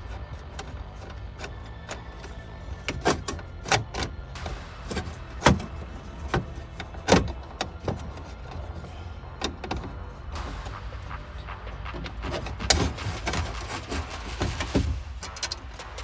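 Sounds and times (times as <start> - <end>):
hard parts and tools clacking: 0.0 - 16.0.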